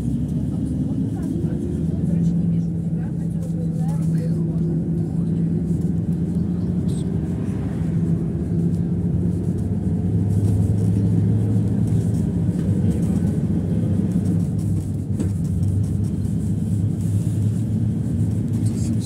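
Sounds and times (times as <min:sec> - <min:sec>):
bus engine running: 0:00.0 - 0:19.0
road and body rumble: 0:00.0 - 0:19.0.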